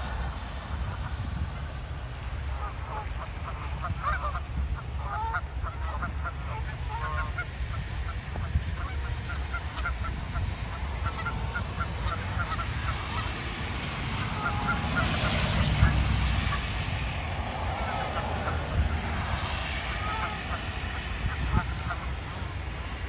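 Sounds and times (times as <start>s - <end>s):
low steady rumble: 0.0s - 23.0s
geese honking: 2.4s - 23.0s.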